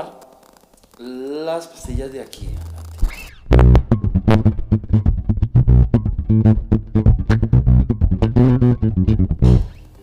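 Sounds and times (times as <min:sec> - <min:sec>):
electric bass plucked notes: 0:01.8 - 0:10.0.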